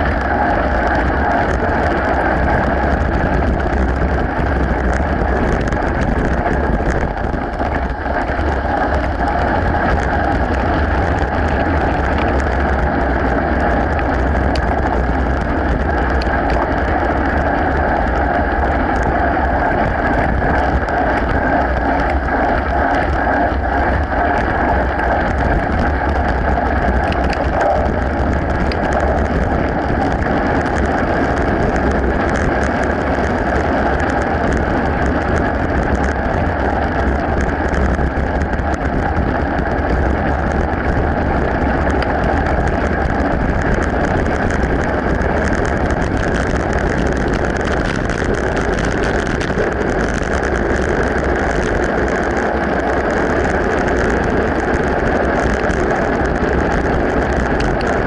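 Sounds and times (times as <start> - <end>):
bike tyres crunching on gravel: 0.0 - 58.0
wind rumble on microphone: 0.0 - 58.0.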